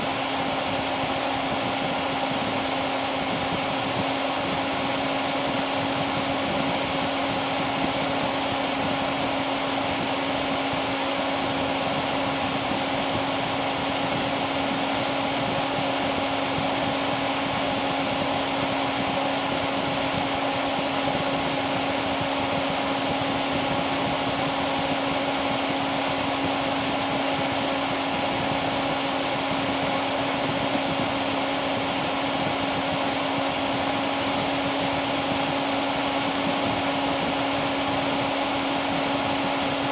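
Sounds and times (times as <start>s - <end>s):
computer cooling fan running: 0.0s - 39.9s.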